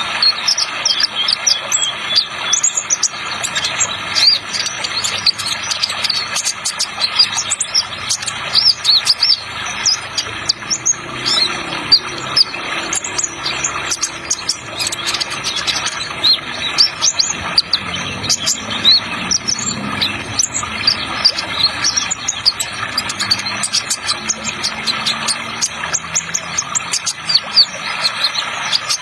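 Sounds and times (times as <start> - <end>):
bird twittering: 0.0 - 29.0
running water hiss: 0.0 - 29.0.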